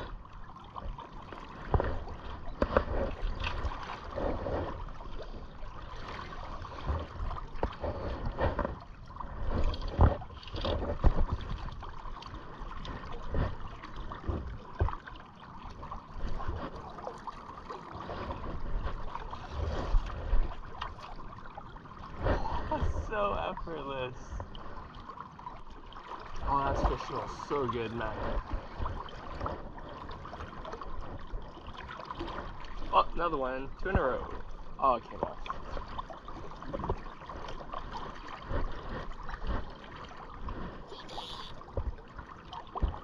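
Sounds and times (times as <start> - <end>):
river water lapping: 0.0 - 43.0.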